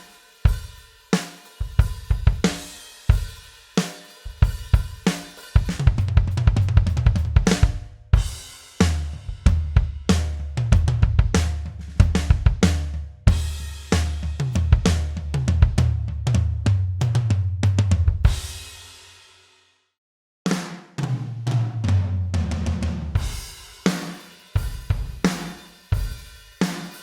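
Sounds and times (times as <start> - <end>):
drum kit groove: 0.0 - 19.5, 20.5 - 27.0.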